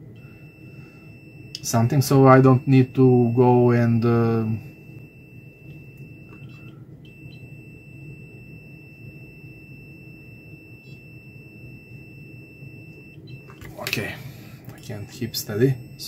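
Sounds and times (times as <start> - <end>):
multimeter continuity beep: 0.0 - 16.0.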